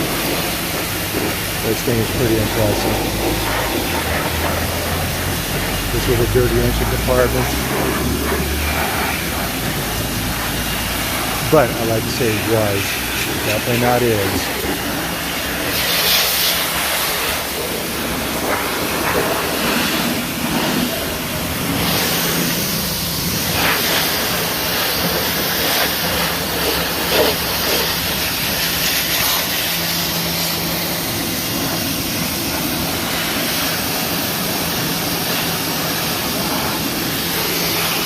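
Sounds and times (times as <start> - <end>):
pressure washer jet hissing: 0.0 - 38.0
pump motor hum: 0.0 - 38.0.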